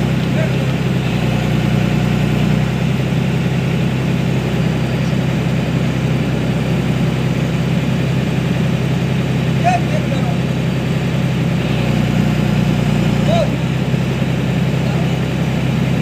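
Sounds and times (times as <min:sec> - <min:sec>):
excavator diesel engine idling: 0:00.0 - 0:16.0.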